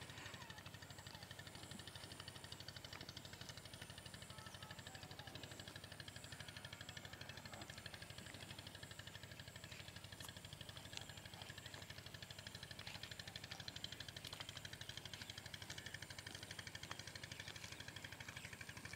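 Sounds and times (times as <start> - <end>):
faint engine running: 0.0 - 18.9.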